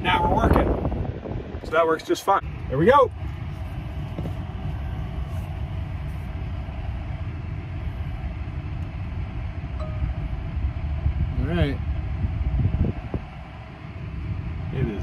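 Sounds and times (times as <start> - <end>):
low road rumble inside vehicle: 0.0 - 15.0.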